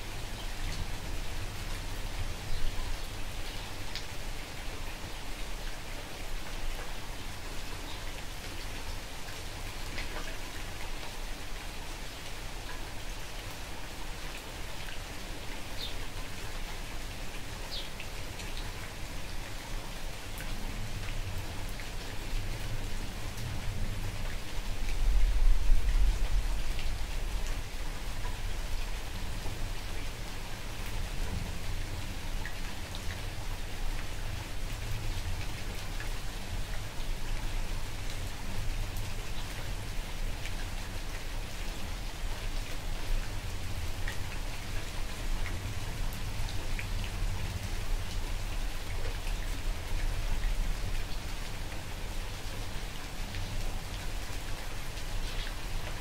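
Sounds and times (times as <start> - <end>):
light rain falling: 0.0 - 56.0.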